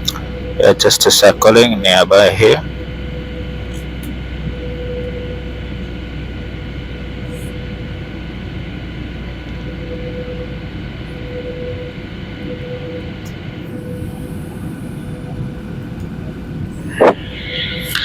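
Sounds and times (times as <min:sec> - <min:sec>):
aircraft cabin engine rumble: 0:00.0 - 0:18.0
faint steady whine: 0:00.0 - 0:18.0.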